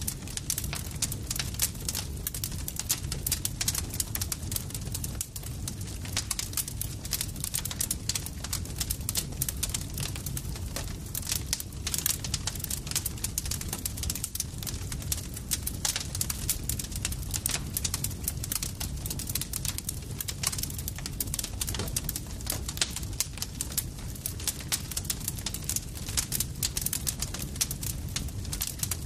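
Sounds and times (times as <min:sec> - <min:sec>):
campfire crackling and popping: 0:00.0 - 0:29.0
low rumble of burning wood: 0:00.0 - 0:29.0.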